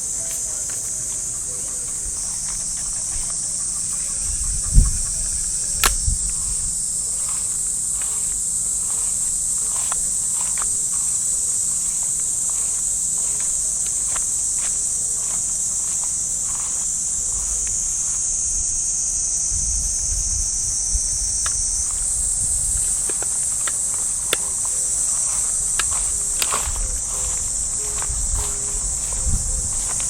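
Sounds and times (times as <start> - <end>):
footsteps on path: 0.0 - 18.8, 21.1 - 30.0
cicadas buzzing: 0.0 - 30.0.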